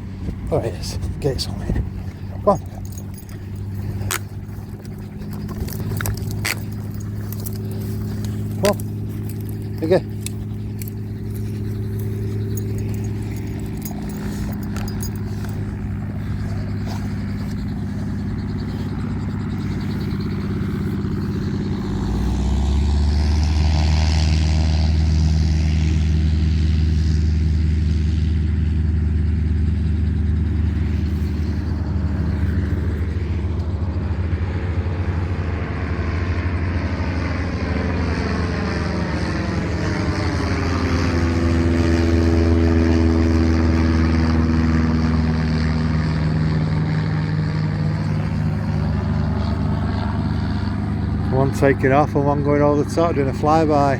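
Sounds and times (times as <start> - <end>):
helicopter engine and rotor drone: 0.0 - 53.9.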